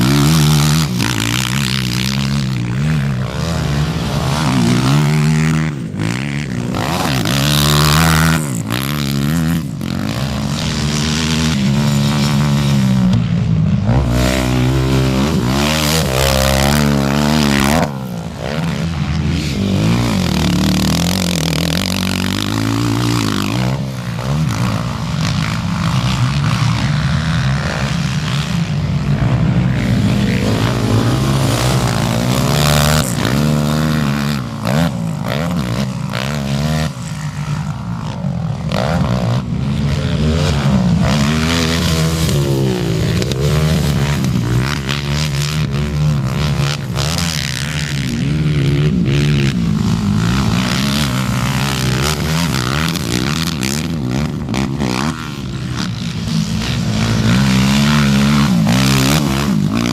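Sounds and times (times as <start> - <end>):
quad engines revving: 0.0 - 59.9.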